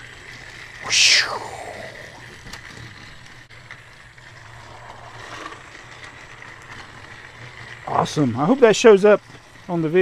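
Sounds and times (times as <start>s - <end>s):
toy train motors whirring: 0.0s - 10.0s.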